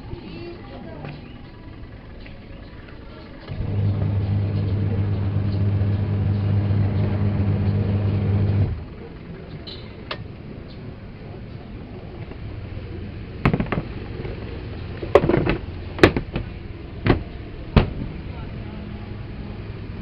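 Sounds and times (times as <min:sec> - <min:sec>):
washing machine motor humming: 0:00.0 - 0:20.0.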